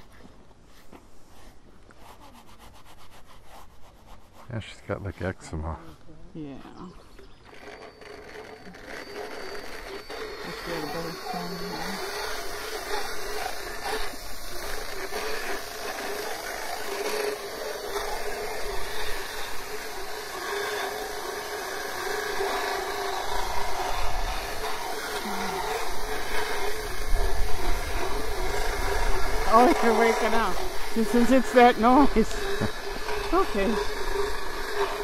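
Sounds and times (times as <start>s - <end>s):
dental float whining: 5.9s - 35.0s.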